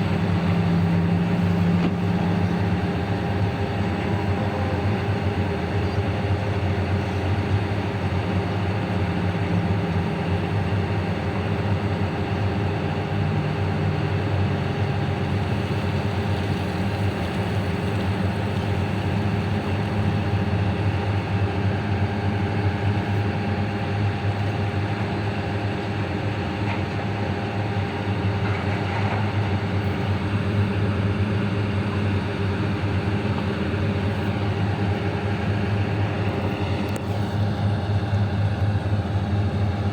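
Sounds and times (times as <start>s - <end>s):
large diesel engine low drone: 0.0s - 39.9s.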